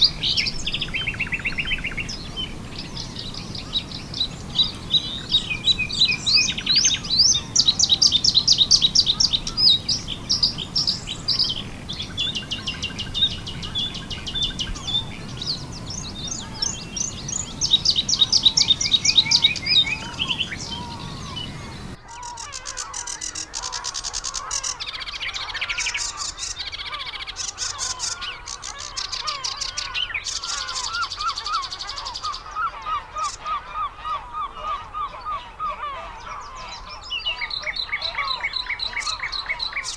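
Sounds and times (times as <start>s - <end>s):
bird singing trills: 0.0s - 39.9s
geese honking: 0.0s - 39.9s
songbird song: 0.0s - 39.9s.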